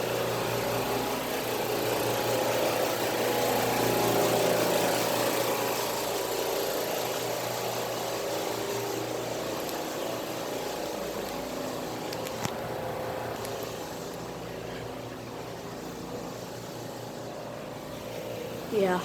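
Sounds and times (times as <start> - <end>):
vending machine hum: 0.0 - 19.0.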